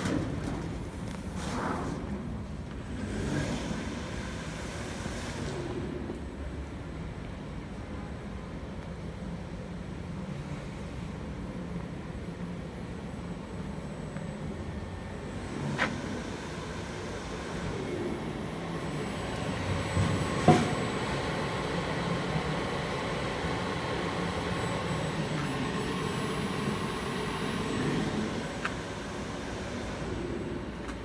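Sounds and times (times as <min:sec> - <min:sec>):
machine mechanical hum: 0:00.0 - 0:31.0.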